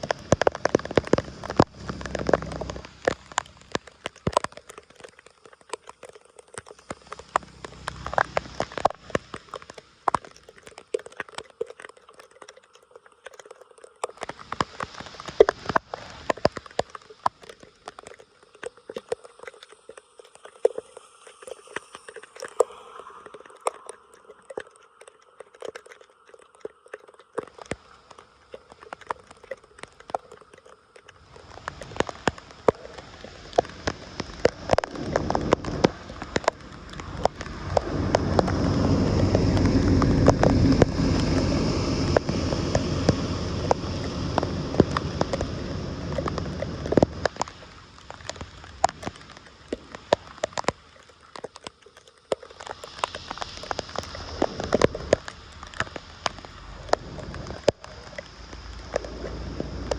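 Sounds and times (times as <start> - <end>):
sharp water splashes: 0.0 - 59.9
water rushing through a drain: 0.0 - 59.9.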